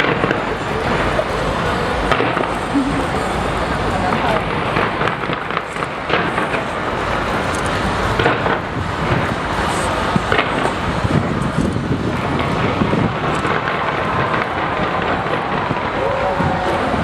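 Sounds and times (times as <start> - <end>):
fireworks bursts and crackles: 0.0 - 17.0
murmur of crowd voices: 0.0 - 17.0.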